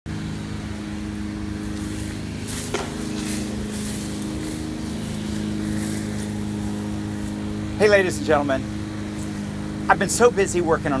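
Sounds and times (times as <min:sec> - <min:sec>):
lawn mower engine running: 0:00.1 - 0:11.0.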